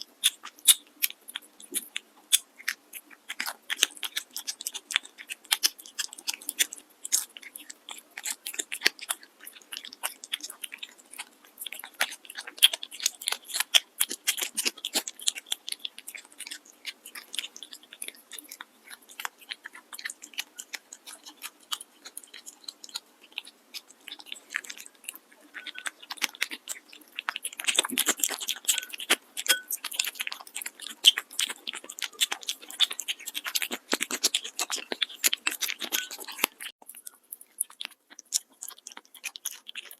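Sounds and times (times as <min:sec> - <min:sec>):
cat crunching food: 0:00.0 - 0:39.9.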